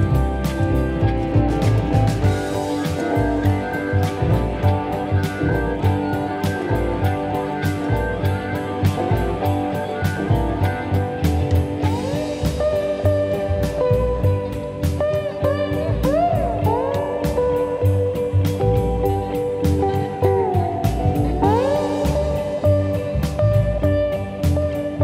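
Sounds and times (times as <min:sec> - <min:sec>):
guitar music with drum beat: 0:00.0 - 0:25.0.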